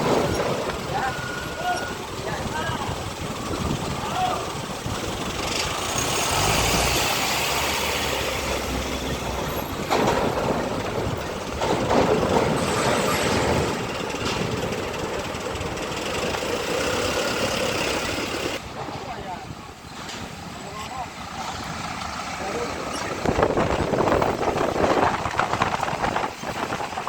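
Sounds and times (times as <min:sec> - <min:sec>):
diesel truck engines rumbling: 0:00.0 - 0:27.0
tyre and road noise: 0:00.0 - 0:27.0.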